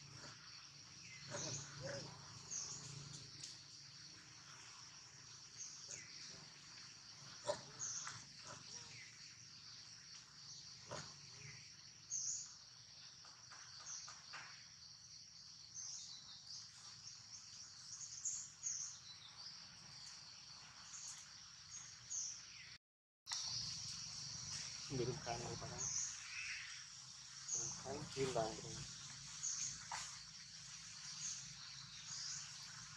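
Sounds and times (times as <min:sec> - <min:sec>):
insects droning: 0:00.0 - 0:22.6, 0:23.3 - 0:32.9.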